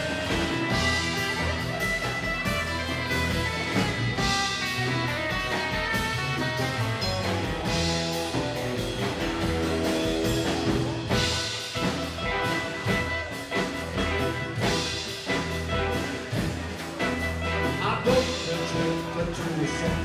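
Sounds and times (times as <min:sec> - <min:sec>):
drum kit beat: 0:00.0 - 0:20.0
low bass notes: 0:00.0 - 0:20.0.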